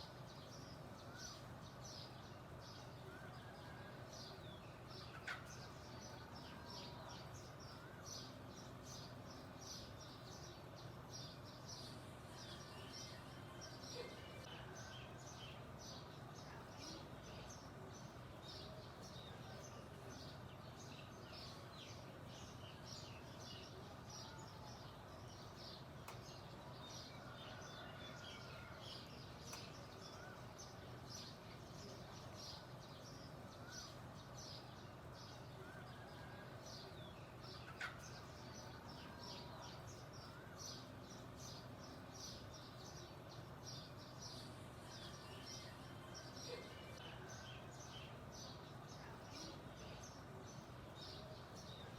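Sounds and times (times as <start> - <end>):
faint low hum: 0.0 - 51.9
songbirds chirping: 0.0 - 51.9.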